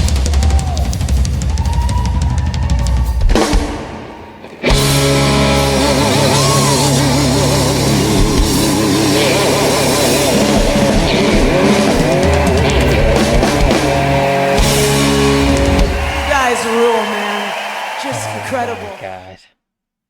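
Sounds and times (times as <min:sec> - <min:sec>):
live blues-rock band: 0:00.0 - 0:16.3.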